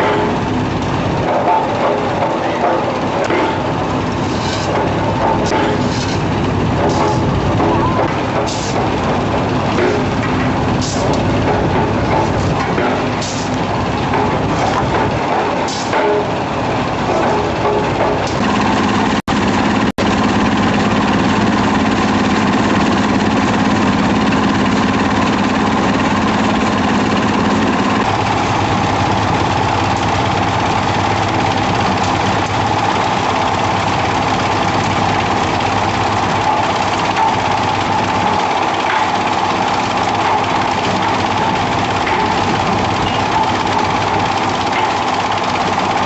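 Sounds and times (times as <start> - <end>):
construction machinery engines: 0.0 - 46.0
high machine whine: 0.0 - 46.0.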